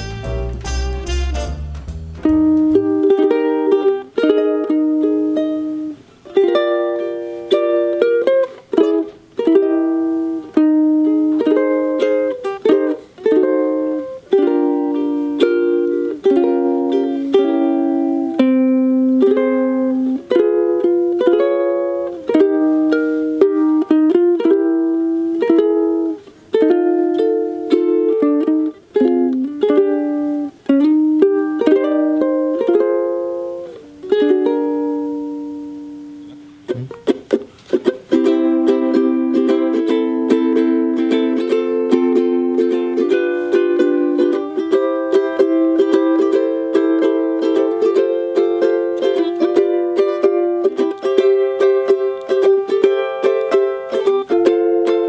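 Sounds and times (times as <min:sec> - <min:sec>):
ukulele strummed and picked: 0:00.0 - 0:55.0.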